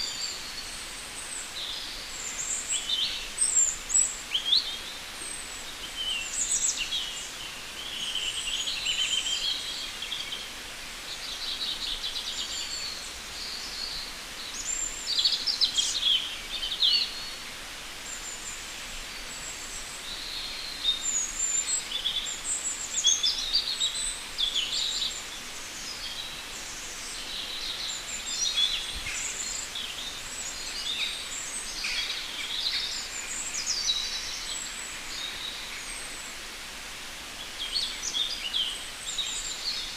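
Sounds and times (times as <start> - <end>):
birds singing and chirping: 0.0 - 17.4, 18.0 - 36.3, 37.4 - 39.9
steady background hiss: 0.0 - 39.9.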